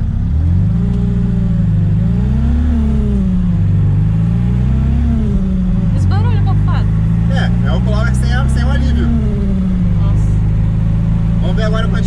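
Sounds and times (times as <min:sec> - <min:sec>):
supercharged car engine revving: 0:00.0 - 0:12.0.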